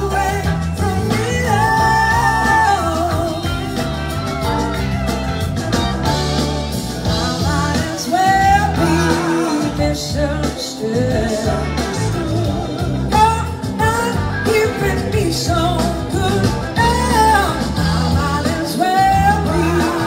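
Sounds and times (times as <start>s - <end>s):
live blues rock band: 0.0s - 20.0s.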